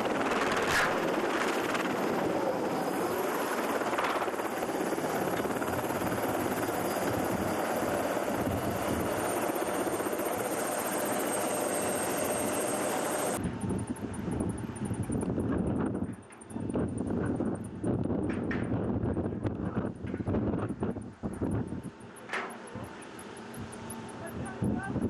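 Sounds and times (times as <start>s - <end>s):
helicopter rotor and engine: 0.0s - 25.0s.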